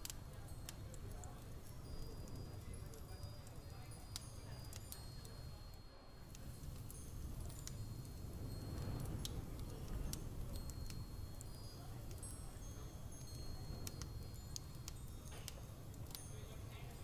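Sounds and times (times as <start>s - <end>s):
faint high tinkles and ticks: 0.0s - 17.0s.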